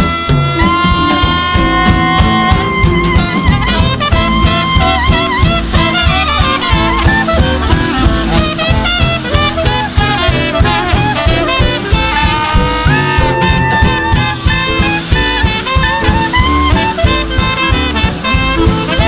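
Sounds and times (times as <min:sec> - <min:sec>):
swing band brass music: 0:00.0 - 0:19.0.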